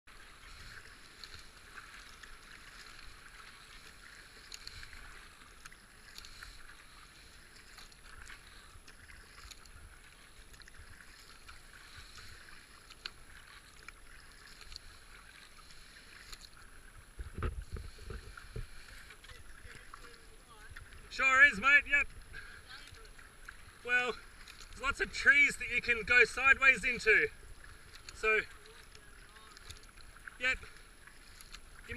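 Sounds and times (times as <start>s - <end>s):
paddle splashes: 0.1s - 31.9s
water rushing around kayak hull: 0.1s - 31.9s.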